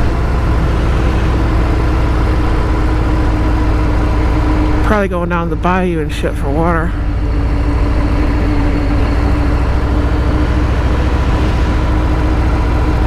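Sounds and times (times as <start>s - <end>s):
motorcycle engine running: 0.0s - 13.0s
road and wind noise: 0.0s - 13.0s
steady hum: 0.0s - 13.0s.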